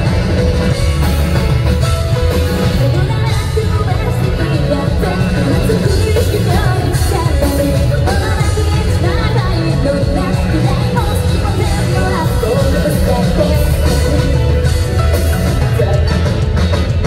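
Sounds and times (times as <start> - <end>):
live rock band playing: 0.0 - 17.0
woman singing lead: 2.6 - 17.0.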